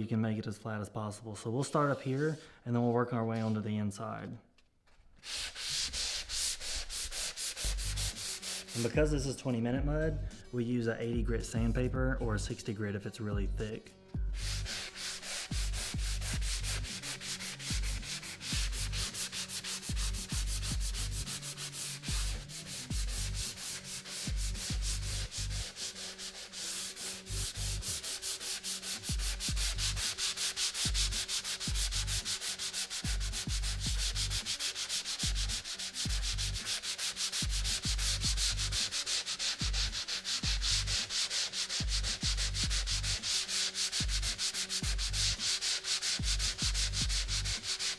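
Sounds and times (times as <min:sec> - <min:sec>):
hand sanding drywall: 0:01.6 - 0:02.5, 0:05.2 - 0:09.3, 0:14.3 - 0:47.9.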